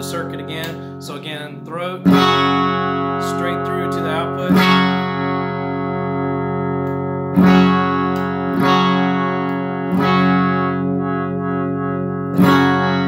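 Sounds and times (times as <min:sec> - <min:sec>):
electric guitar chords strummed: 0:00.0 - 0:13.0.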